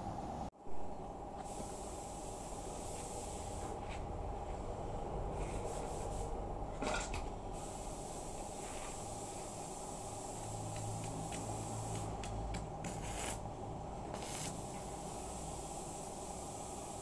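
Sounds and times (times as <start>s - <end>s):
faint constant hum: 0.0s - 17.0s.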